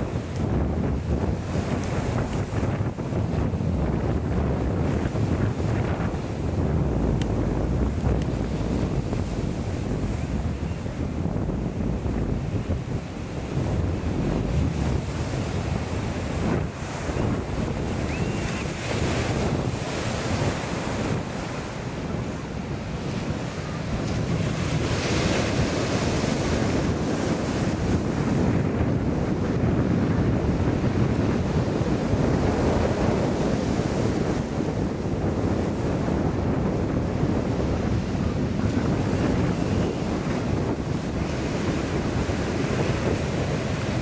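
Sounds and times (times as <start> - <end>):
ocean surf breaking: 0.0 - 44.0
wind buffeting microphone: 0.0 - 44.0.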